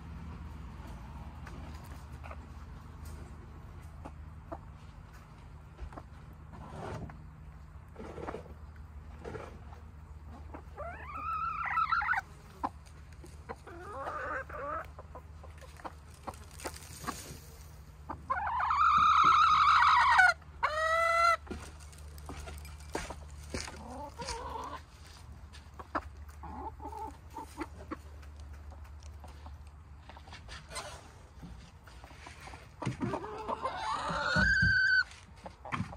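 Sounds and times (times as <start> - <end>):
hens clucking and calling: 2.1 - 6.7, 7.5 - 35.9.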